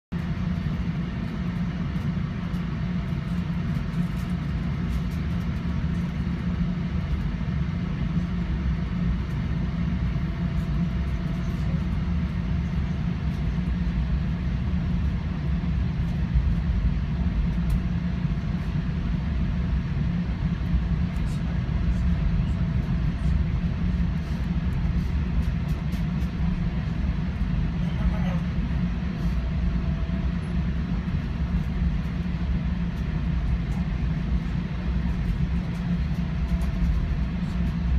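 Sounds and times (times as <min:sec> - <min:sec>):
train rumbling from inside: 0:00.1 - 0:37.9.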